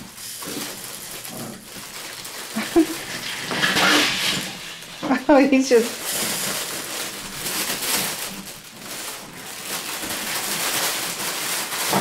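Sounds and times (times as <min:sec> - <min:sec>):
puppies rustling fabric tunnel: 0:00.0 - 0:12.0.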